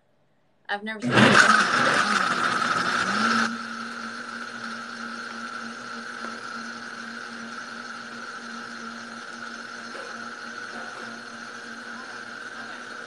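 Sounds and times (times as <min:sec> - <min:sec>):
blender churning ice: 0:01.0 - 0:13.0
blender motor humming: 0:01.0 - 0:13.0.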